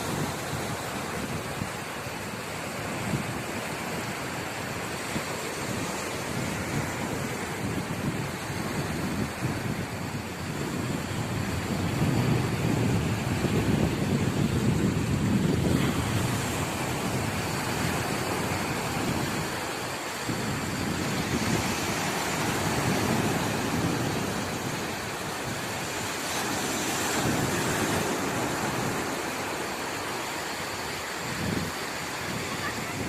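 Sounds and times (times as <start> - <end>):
sea surf washing in: 0.0 - 33.0
wind on microphone: 0.0 - 33.0.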